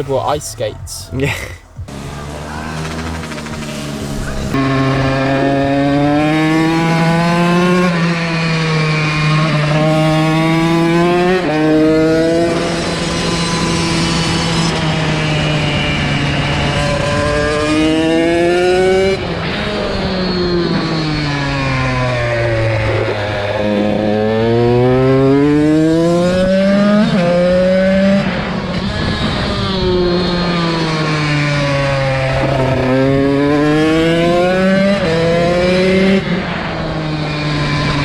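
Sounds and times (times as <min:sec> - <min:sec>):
dirt bike engine accelerating: 0:00.0 - 0:38.0.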